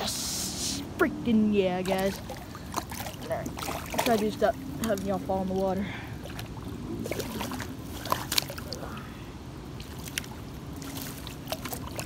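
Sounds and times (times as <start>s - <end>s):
water sloshing and lapping: 0.0s - 12.0s.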